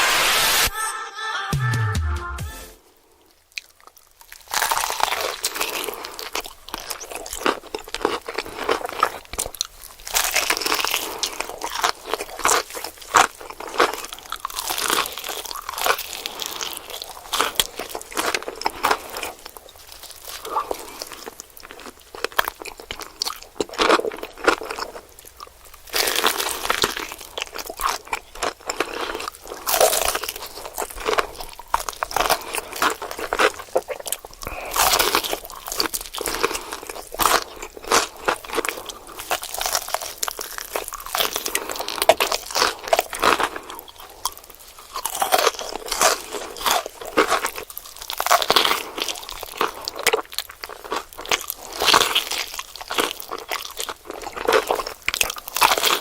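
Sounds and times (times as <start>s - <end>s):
crunchy chewing: 3.0s - 56.0s.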